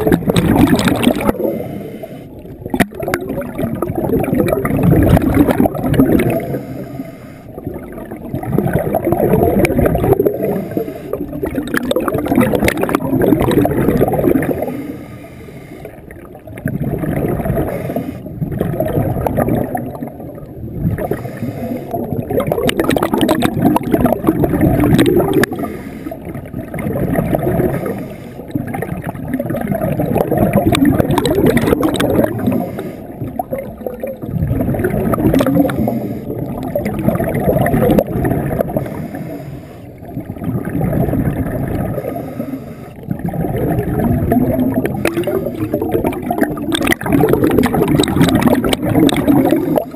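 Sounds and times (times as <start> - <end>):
underwater bubbling and gurgling: 0.0 - 49.9.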